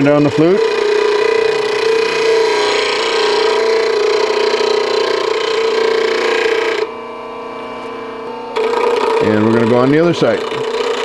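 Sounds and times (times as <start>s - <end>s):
bench grinder motor hum: 0.0s - 11.0s
grinder grinding steel: 0.0s - 11.0s.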